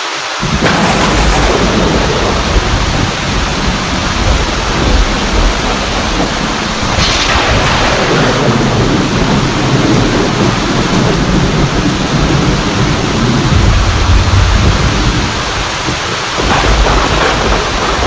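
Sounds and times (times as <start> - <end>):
steady rain pouring: 0.0 - 18.0
rolling thunder: 0.4 - 18.0.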